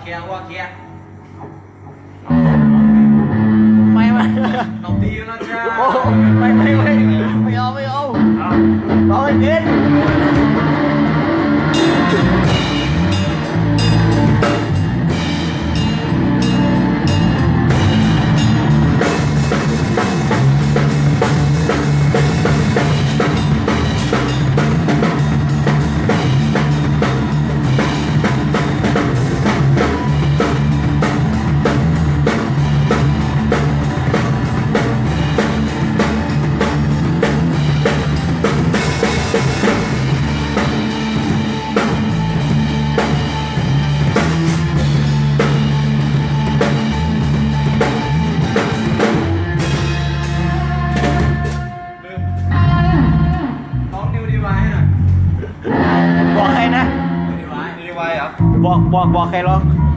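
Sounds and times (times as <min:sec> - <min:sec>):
electric guitar: 0:00.8 - 0:54.0, 0:54.8 - 0:59.9
drum kit: 0:01.3 - 0:59.9.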